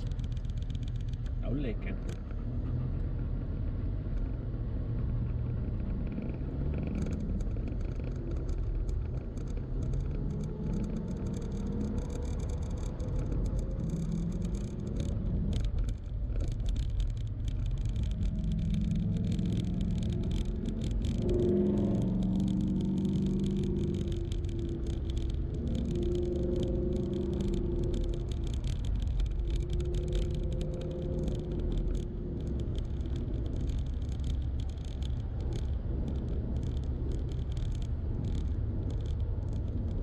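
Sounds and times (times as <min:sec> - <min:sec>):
car engine and road rumble: 0:00.0 - 0:40.0
scattered crackling: 0:05.2 - 0:40.0.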